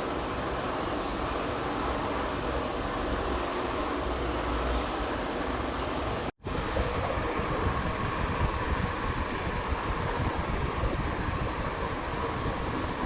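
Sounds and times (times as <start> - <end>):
ceiling fan whooshing: 0.0 - 13.0.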